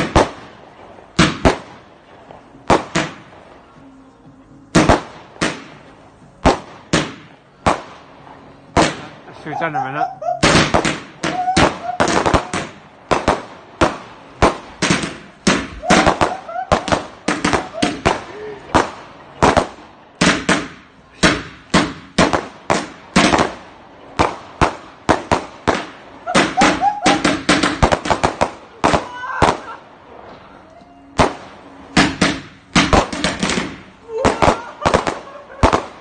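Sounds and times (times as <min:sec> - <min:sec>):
firework bangs: 0:00.0 - 0:04.0, 0:04.6 - 0:36.0.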